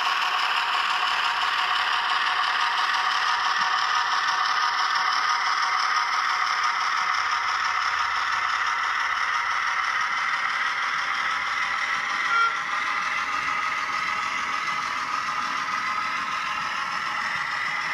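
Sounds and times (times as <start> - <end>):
model train wheels clattering: 0.0 - 17.9.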